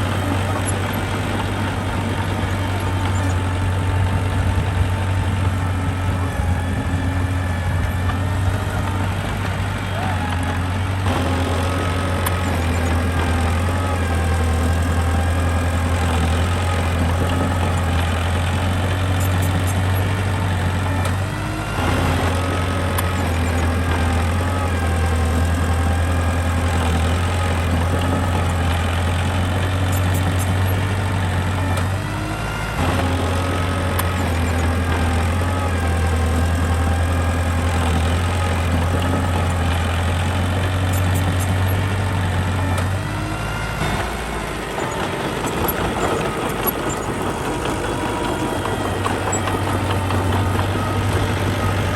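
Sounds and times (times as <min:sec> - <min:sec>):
diesel engine humming: 0:00.0 - 0:51.9.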